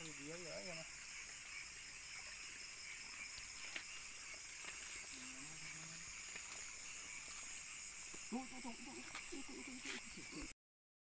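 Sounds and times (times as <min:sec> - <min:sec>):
night insects chirring: 0:00.0 - 0:10.6.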